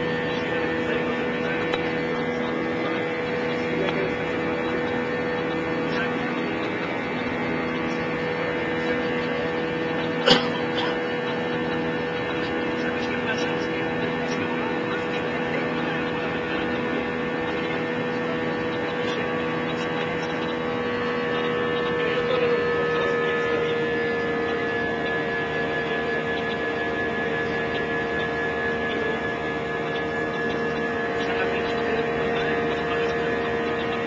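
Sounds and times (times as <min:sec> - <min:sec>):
jet engine and airflow drone: 0:00.0 - 0:34.0.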